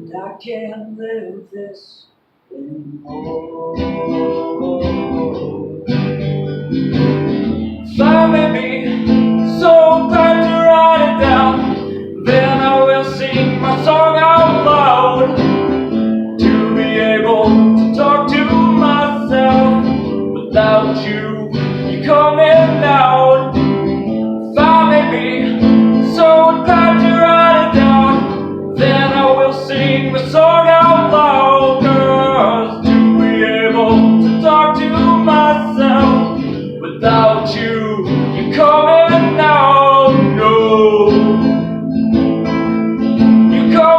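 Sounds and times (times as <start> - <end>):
man singing: 0.0 - 41.8, 43.1 - 43.9
acoustic guitar strumming: 2.4 - 43.9.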